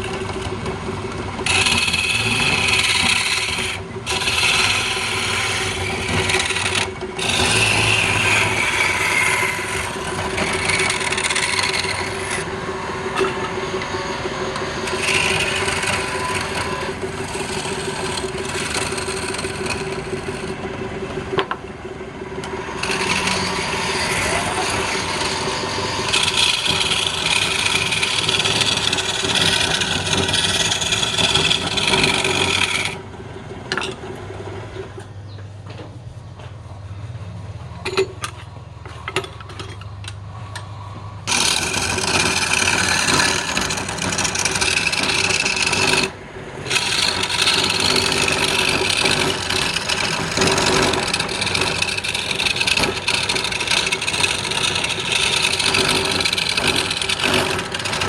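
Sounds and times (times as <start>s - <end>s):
tool scraping wood: 0.0s - 0.7s, 1.4s - 21.6s, 22.4s - 33.0s, 40.6s - 58.0s
wood lathe motor hum: 0.0s - 33.1s, 41.2s - 58.0s.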